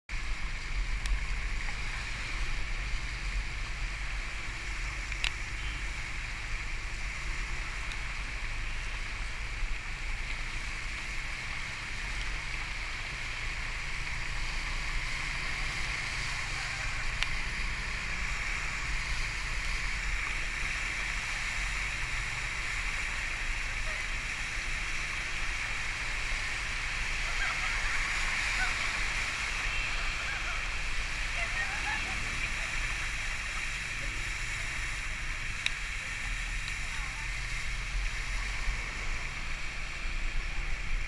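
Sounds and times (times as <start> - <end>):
water splashing from tyres: 0.1 - 41.0.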